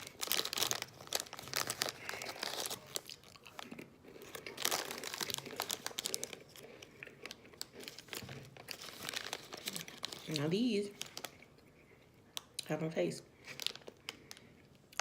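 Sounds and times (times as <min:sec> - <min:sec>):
plastic packet crinkling: 0:00.0 - 0:11.6, 0:13.4 - 0:15.0
crunchy crackers being chewed: 0:00.0 - 0:12.7, 0:13.4 - 0:15.0.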